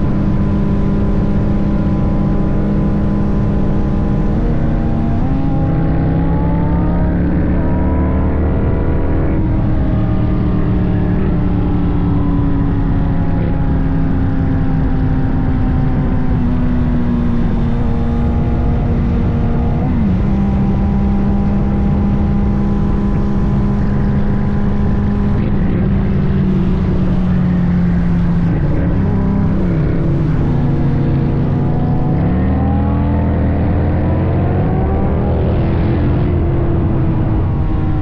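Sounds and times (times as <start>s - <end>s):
motorcycle engine running: 0.0s - 7.4s, 8.5s - 38.0s.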